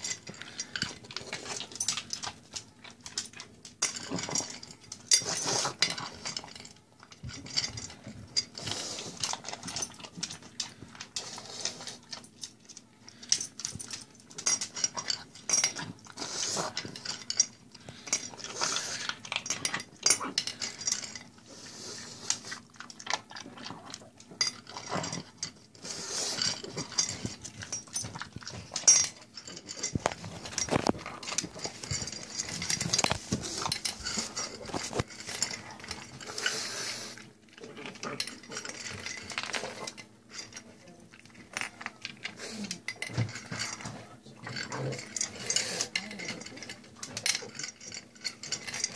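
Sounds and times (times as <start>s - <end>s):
dog crunching dry kibble: 0.0s - 48.9s
kibble clattering against bowl: 0.0s - 48.9s.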